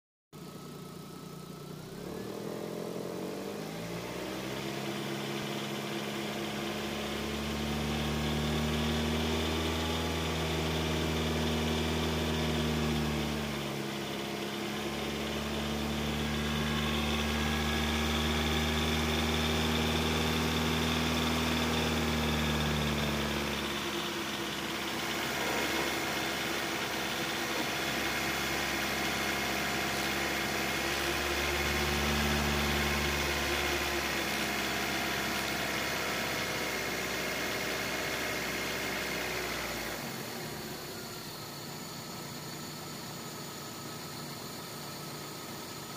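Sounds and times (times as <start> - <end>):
car engine revving: 1.1 - 45.4.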